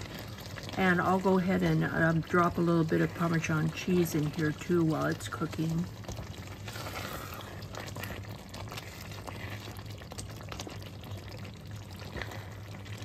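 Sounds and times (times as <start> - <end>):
sauce bubbling and popping: 0.0 - 13.0
spatula stirring pasta: 0.0 - 13.0.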